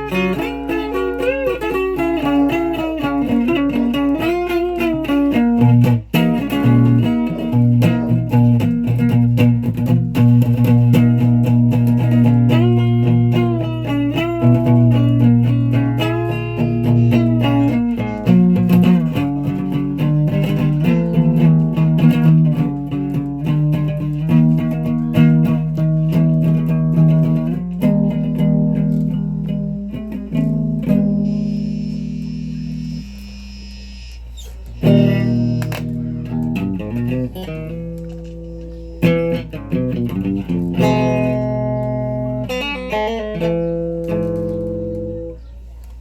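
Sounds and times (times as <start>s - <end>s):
solo guitar playing: 0.0s - 45.7s.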